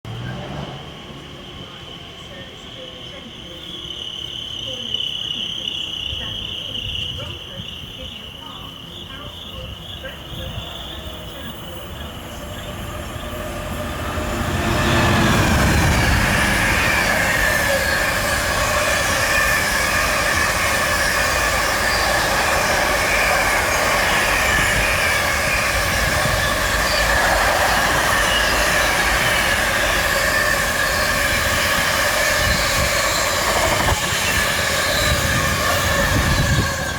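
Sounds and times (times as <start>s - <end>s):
diesel train passing: 0.0s - 36.9s
wheels squealing on rails: 0.1s - 36.9s.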